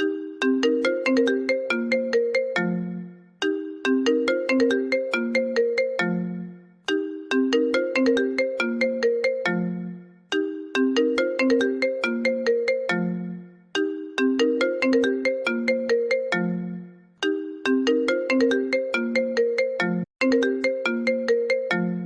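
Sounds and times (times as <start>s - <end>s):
phone ringtone melody: 0.0s - 22.0s.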